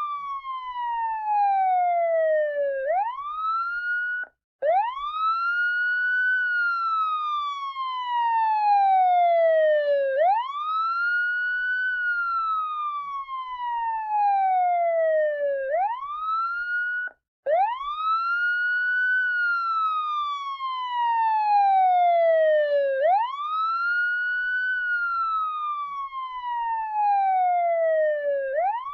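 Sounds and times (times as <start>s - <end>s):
electronic siren wailing: 0.0s - 28.9s.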